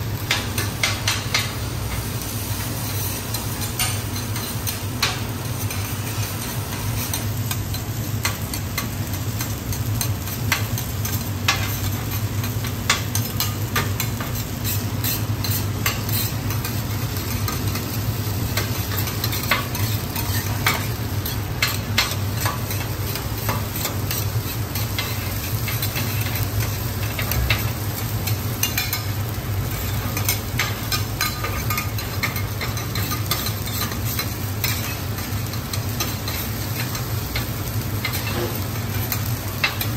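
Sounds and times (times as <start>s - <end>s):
rice sizzling: 0.0s - 39.9s
metal spatulas scraping a griddle: 0.2s - 8.9s, 9.5s - 39.9s.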